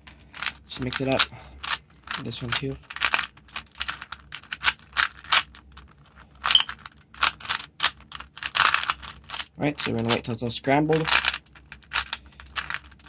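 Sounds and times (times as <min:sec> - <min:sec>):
puzzle cube layers clicking: 0:00.4 - 0:10.2, 0:11.0 - 0:13.0.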